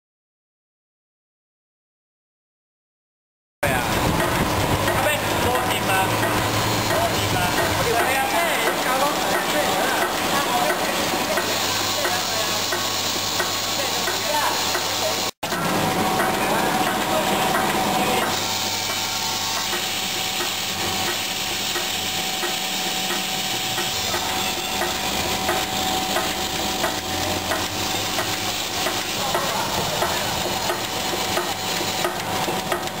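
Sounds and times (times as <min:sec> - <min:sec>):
steady machine hum: 0:03.6 - 0:33.0.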